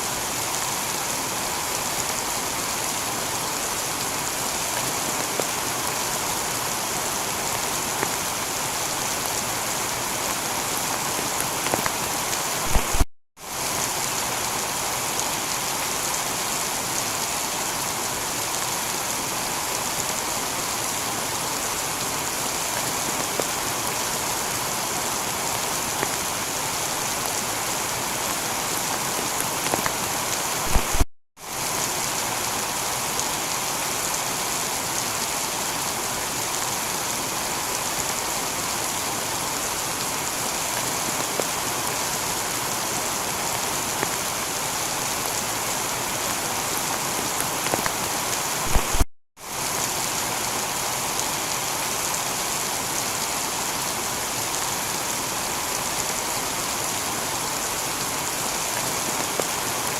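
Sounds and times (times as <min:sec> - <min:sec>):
heavy rain on a tiled roof: 0:00.0 - 0:59.9.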